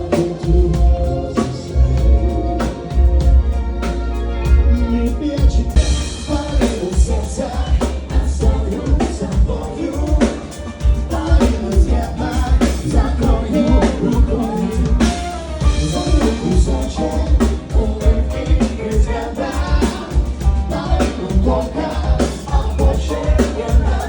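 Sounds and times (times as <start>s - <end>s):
person singing: 0.0s - 3.5s, 4.7s - 24.0s
live band playing upbeat song: 0.0s - 24.0s.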